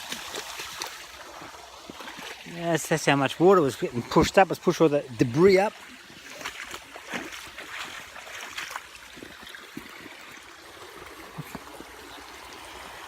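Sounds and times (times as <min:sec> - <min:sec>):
water splashes and knocks: 0:00.0 - 0:12.4
creek water rushing: 0:00.0 - 0:13.0.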